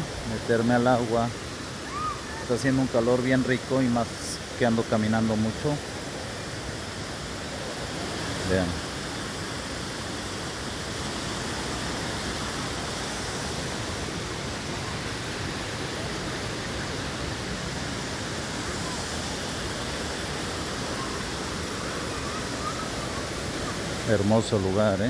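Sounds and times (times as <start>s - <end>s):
river water rushing over rocks: 0.0s - 25.0s.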